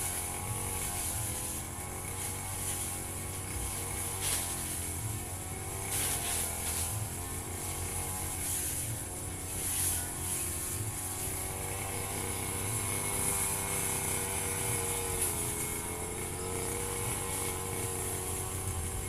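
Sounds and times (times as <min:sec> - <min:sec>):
brush cutter engine cutting grass: 0:00.0 - 0:19.0.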